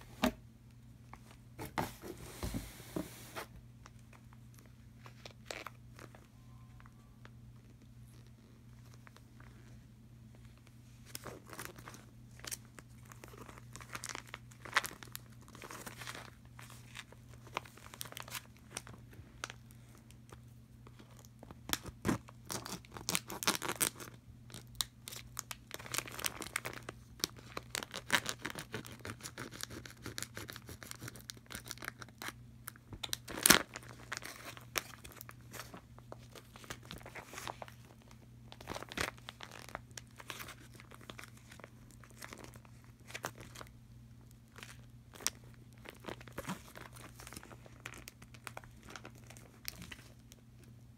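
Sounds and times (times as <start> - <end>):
plastic packaging crinkling: 3.8 - 9.5, 10.5 - 50.7.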